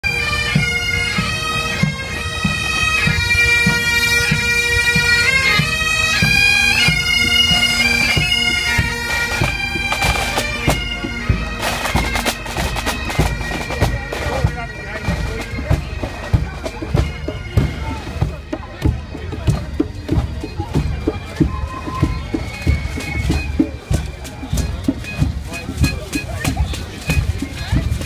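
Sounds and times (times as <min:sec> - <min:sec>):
bagpipe band playing a march: 0:00.0 - 0:28.0
crowd noise: 0:00.0 - 0:28.0
drum beat: 0:02.4 - 0:28.0.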